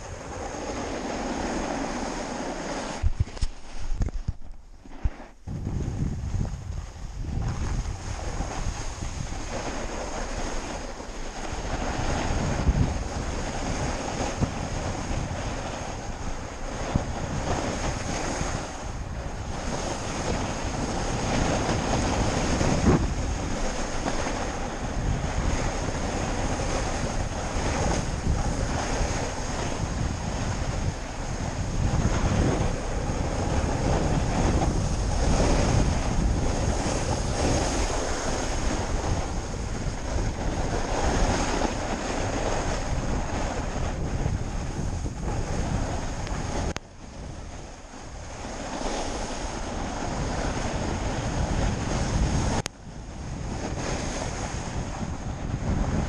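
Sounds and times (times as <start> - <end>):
snowboard sliding on snow: 0.0 - 52.6
wind buffeting microphone: 0.0 - 56.0.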